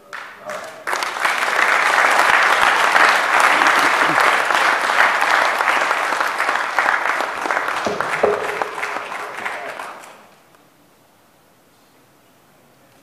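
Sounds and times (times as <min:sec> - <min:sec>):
congregation applauding: 0:00.0 - 0:10.4.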